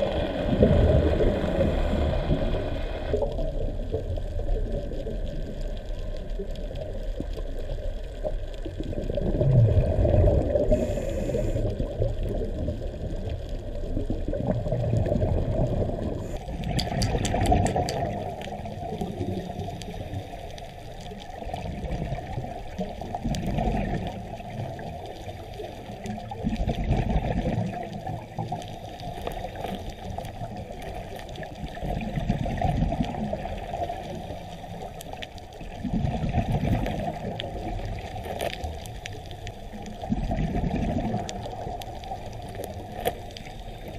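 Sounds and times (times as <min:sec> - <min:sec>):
muffled underwater churning: 0:00.0 - 0:43.9.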